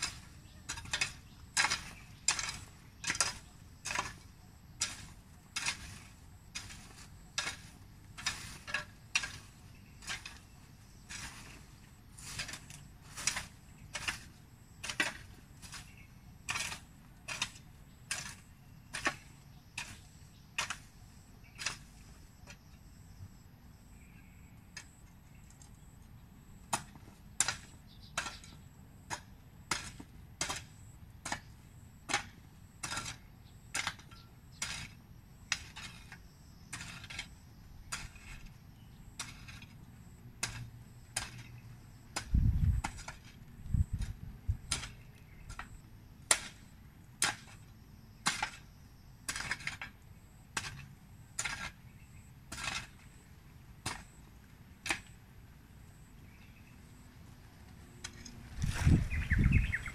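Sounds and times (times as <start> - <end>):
hoe chopping and scraping soil: 0.0 - 23.3, 26.5 - 55.3, 57.6 - 59.9.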